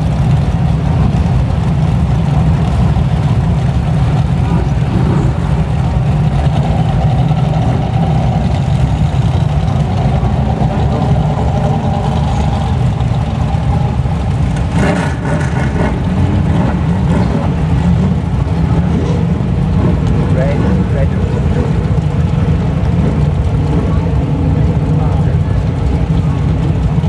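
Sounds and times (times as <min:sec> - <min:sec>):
race car engines rumbling: 0:00.0 - 0:27.0.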